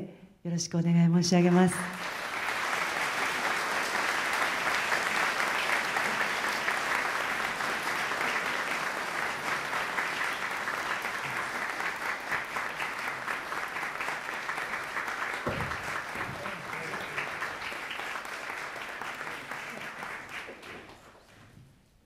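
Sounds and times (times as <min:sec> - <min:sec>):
large audience applauding: 0:01.5 - 0:21.5.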